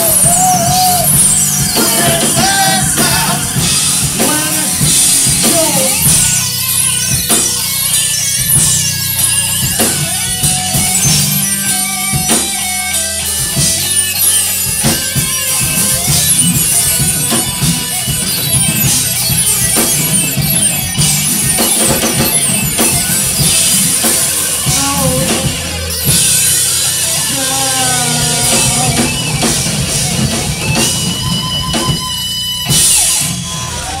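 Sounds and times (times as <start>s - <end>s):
drum kit with cymbals: 0.0s - 34.0s
electric guitar: 0.0s - 34.0s.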